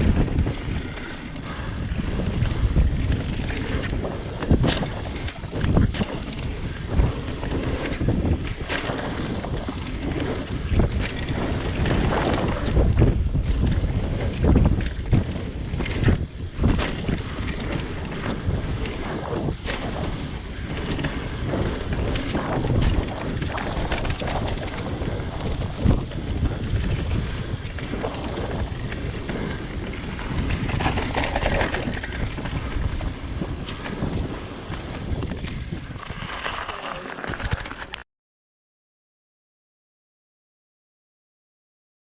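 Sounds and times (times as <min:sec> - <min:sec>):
wind buffeting microphone: 0:00.0 - 0:37.6
bike knocking and rattling: 0:00.0 - 0:38.0
bike tyres on dirt trail: 0:00.0 - 0:38.0.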